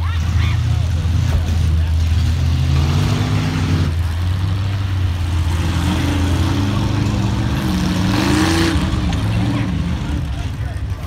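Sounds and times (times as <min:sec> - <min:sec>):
truck engine deep rumble: 0:00.0 - 0:11.0
engine revving: 0:00.2 - 0:11.0.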